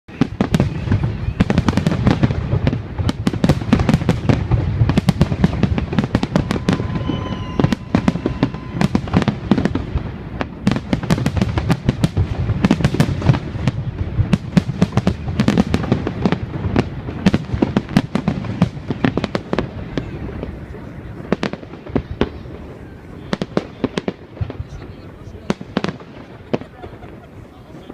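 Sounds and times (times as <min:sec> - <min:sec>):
fireworks bangs and crackles: 0:00.1 - 0:27.9.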